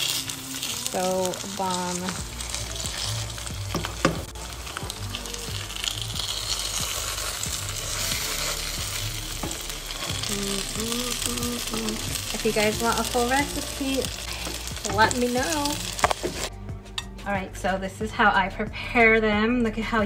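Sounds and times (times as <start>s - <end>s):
food sizzling in oil: 0.0s - 16.6s.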